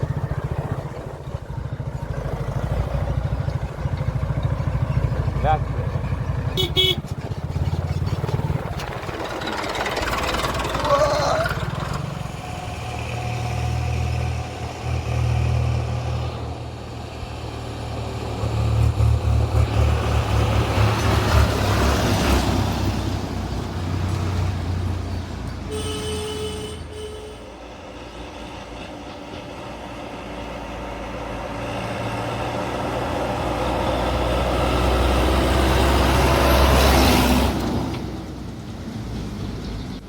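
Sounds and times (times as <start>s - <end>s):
diesel engine throbbing: 0.0s - 40.0s.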